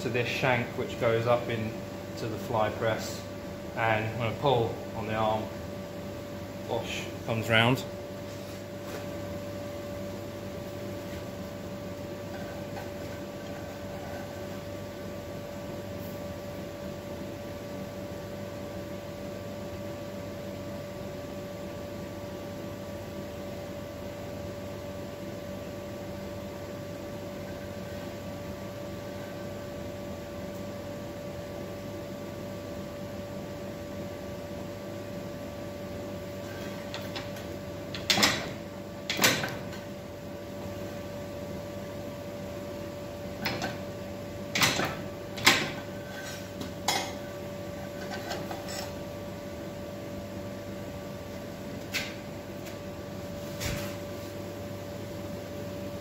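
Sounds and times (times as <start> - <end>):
steady background hum: 0.0 - 56.0.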